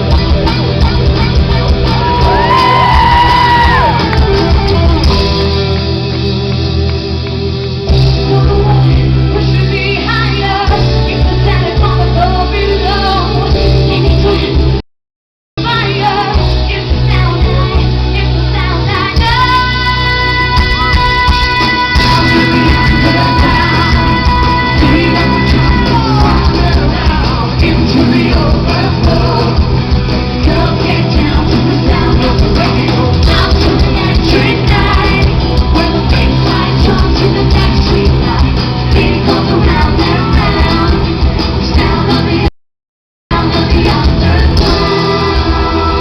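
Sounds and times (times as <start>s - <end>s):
live pop music with woman singing: 0.0s - 7.0s, 7.8s - 14.8s, 15.6s - 42.5s, 43.3s - 46.0s.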